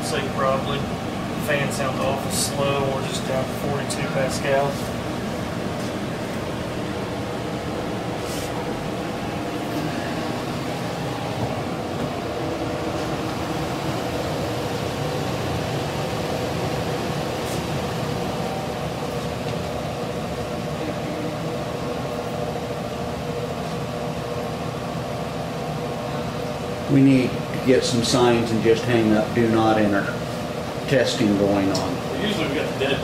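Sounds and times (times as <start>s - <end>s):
fan whirring drone: 0.0s - 33.0s.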